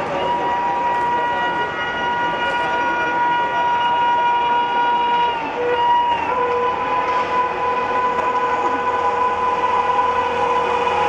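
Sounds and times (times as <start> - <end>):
train horn long blast: 0.0 - 11.0
train rushing past: 0.0 - 11.0.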